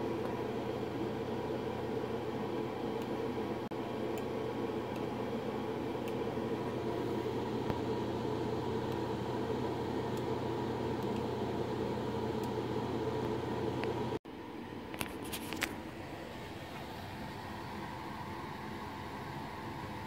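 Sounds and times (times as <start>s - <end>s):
cooling blower running: 0.0s - 20.0s.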